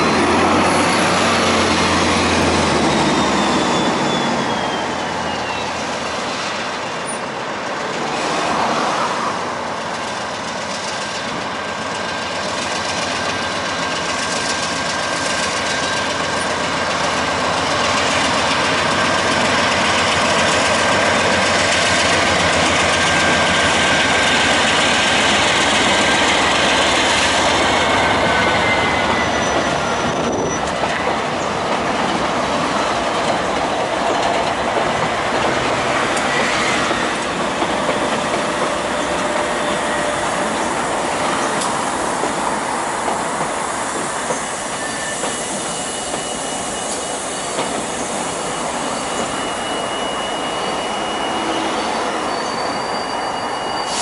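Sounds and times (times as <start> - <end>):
freight train engine and rail noise: 0.0 - 54.0.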